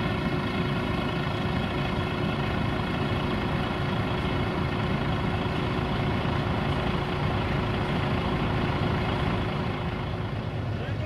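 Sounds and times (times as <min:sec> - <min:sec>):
diesel truck engine idling: 0:00.0 - 0:11.0
grain conveyor running: 0:00.0 - 0:11.0.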